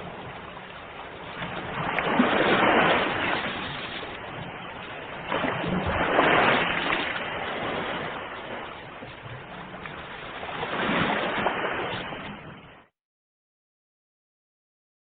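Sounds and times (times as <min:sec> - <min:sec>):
ocean waves breaking: 0:00.0 - 0:12.9.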